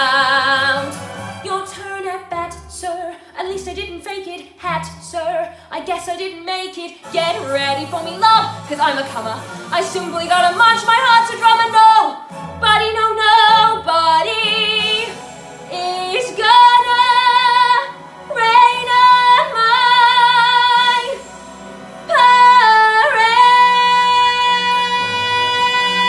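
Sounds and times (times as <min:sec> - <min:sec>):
backing music: 0:00.0 - 0:02.7, 0:07.0 - 0:26.0
woman singing show tune: 0:00.0 - 0:26.0.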